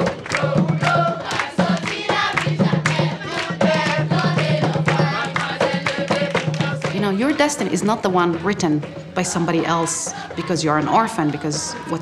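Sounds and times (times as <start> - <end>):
choir singing: 0.0 - 12.0
percussion: 0.0 - 12.0.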